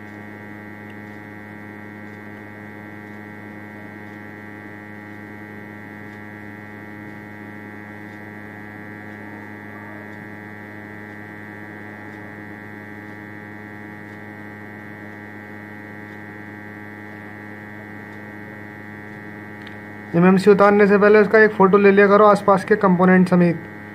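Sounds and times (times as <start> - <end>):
hot air station humming: 0.0 - 23.9.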